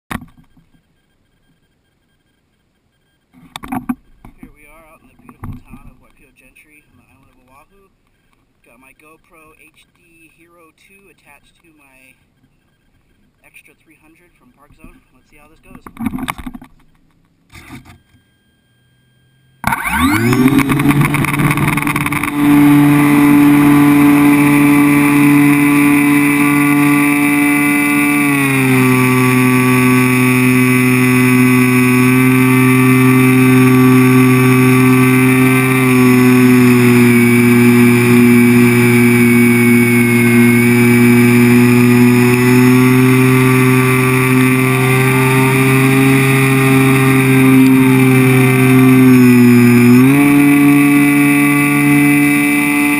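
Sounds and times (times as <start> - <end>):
muffled electric motor and propeller: 0.1 - 1.8, 2.4 - 7.8, 8.6 - 52.9.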